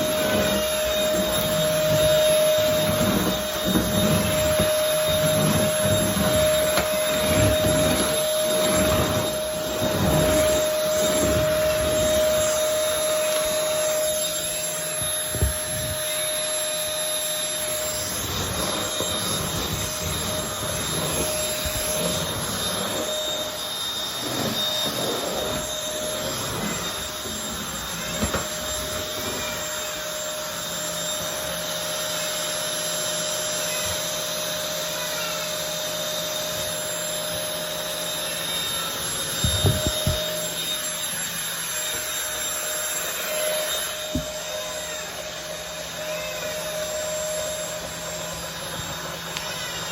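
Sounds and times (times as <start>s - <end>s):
vacuum cleaner bumps: 0.0s - 34.8s, 35.8s - 49.9s
vacuum cleaner running: 0.0s - 49.9s.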